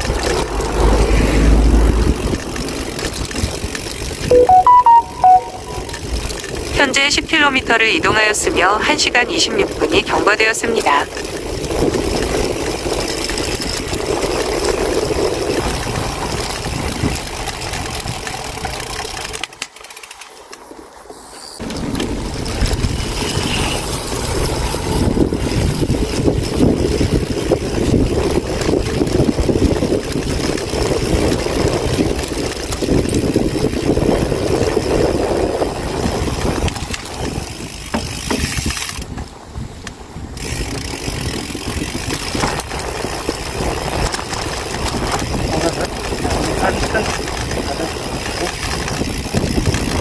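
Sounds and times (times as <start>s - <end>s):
wind noise on microphone: 0.0s - 4.3s, 11.1s - 18.9s, 21.6s - 50.0s.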